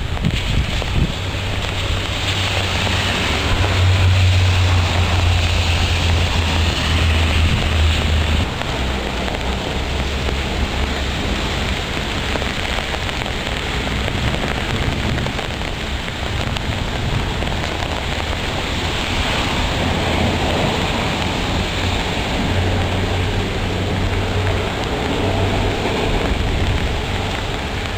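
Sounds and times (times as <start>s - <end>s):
heavy rain pouring: 0.0s - 27.9s
low thunder rumble: 0.0s - 27.9s.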